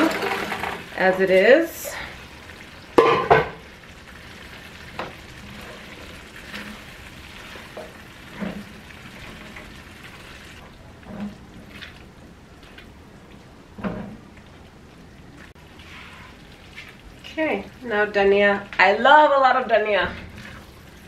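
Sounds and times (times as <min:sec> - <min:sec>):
curry simmering and sizzling: 0:00.0 - 0:21.0.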